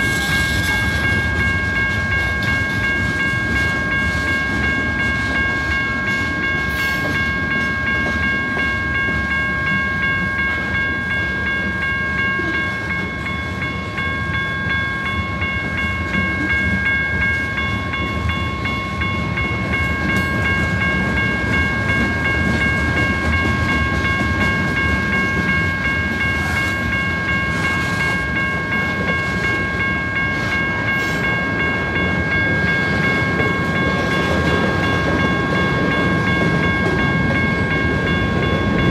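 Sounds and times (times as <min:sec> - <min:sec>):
freight train wheels rumbling: 0:00.0 - 0:38.9
high ringing tone: 0:00.0 - 0:38.9.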